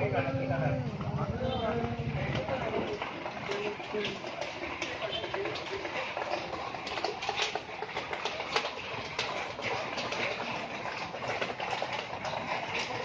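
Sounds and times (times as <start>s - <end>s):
floodwater splashing and dripping: 1.8s - 13.0s.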